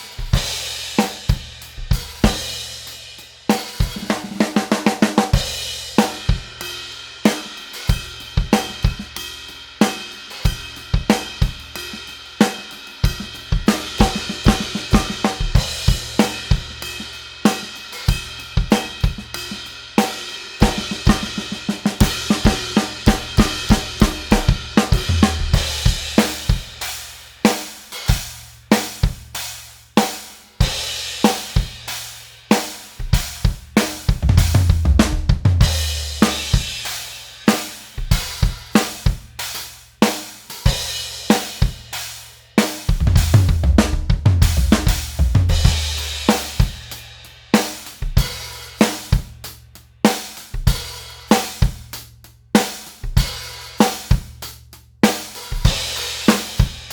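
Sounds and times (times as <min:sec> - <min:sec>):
ride and crash cymbals: 0:00.0 - 0:51.8, 0:55.0 - 0:56.9
drum kit groove: 0:00.0 - 0:56.9.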